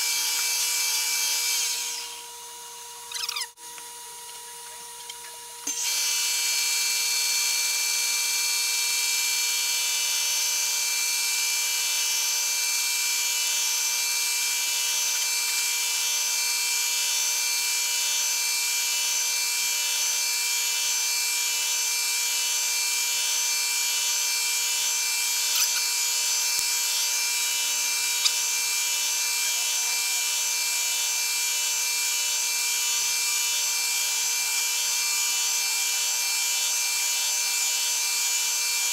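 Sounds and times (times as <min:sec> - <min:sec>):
cutter hissing in wood: 0:00.0 - 0:02.4, 0:05.0 - 0:38.9
milling machine whine: 0:00.0 - 0:38.9.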